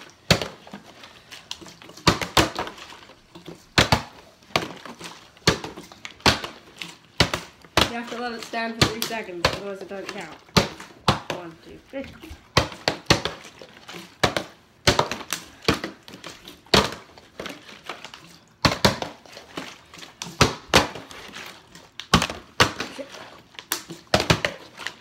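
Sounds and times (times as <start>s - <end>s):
plastic bottles landing on wooden floor: 0.0s - 0.9s, 1.5s - 21.4s, 22.0s - 25.0s.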